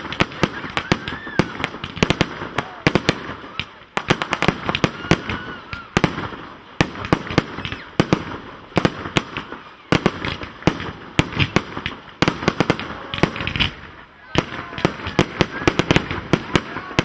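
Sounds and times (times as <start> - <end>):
firework bursts: 0.0 - 17.0
firework crackle: 0.0 - 17.0.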